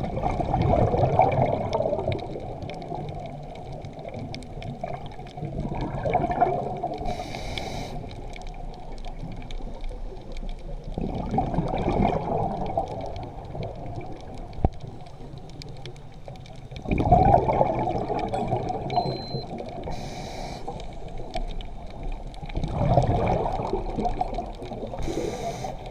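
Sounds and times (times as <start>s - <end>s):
faint crackling: 0.0s - 25.9s
underwater bubbling and gurgling: 0.0s - 25.9s.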